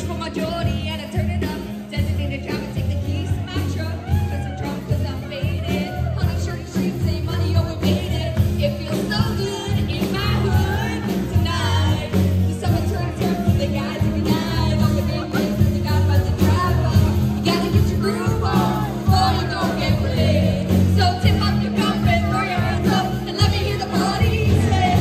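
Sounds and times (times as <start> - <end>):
live band playing dance song: 0.0 - 25.0
woman singing into microphone: 0.0 - 25.0.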